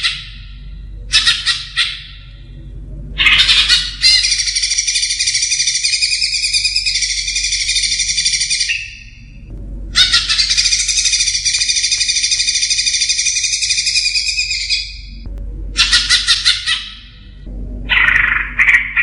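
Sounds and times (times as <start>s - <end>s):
bird singing: 0.0s - 2.6s, 3.2s - 19.0s.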